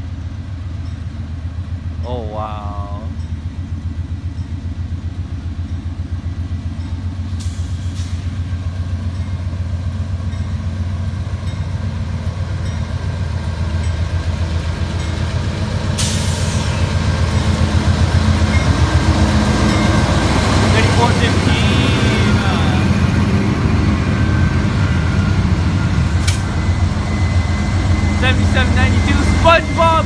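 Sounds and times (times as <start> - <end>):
diesel locomotives passing: 0.0 - 30.0.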